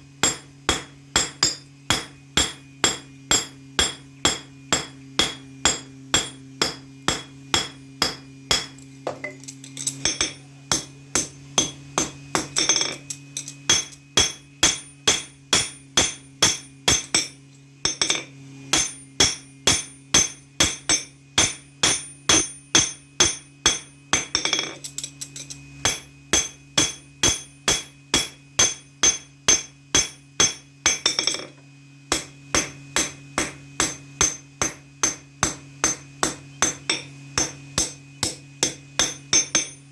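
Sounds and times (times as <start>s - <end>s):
steady low hum: 0.0s - 39.9s
hammer striking metal on anvil: 0.2s - 39.9s.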